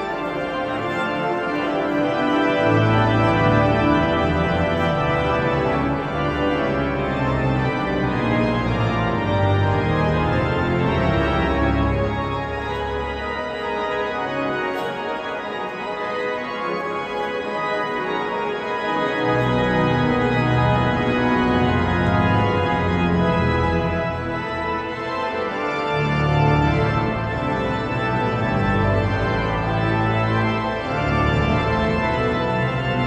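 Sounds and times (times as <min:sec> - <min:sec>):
deep organ pedal bass: 0:00.0 - 0:14.8, 0:18.4 - 0:33.0
pipe organ chords: 0:00.0 - 0:33.0.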